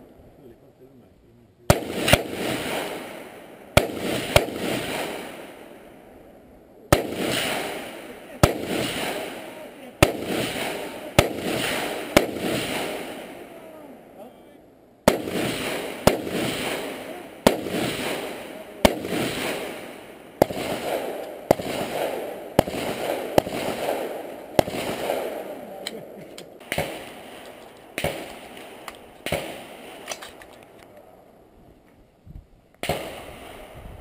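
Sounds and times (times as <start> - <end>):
rifle shots with echo: 1.7 - 14.4, 15.0 - 30.8, 32.8 - 34.0.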